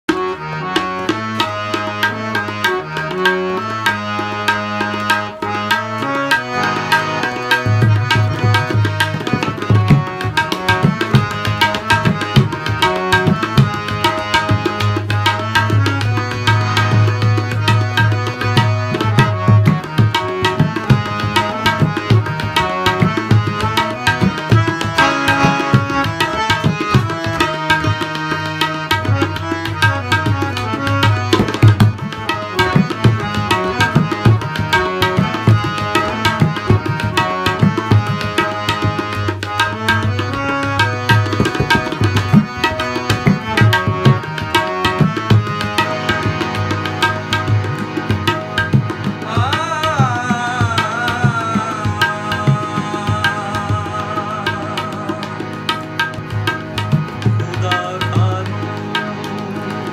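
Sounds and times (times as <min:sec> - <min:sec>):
harmonium melody: 0:00.0 - 0:59.9
tabla strokes: 0:00.1 - 0:58.2.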